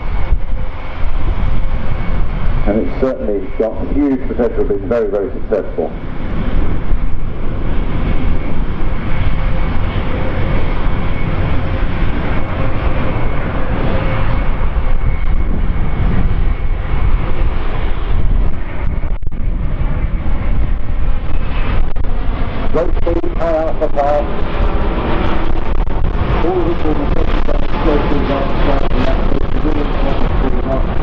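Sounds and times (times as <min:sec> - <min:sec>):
jet plane flying past: 0:00.0 - 0:31.0.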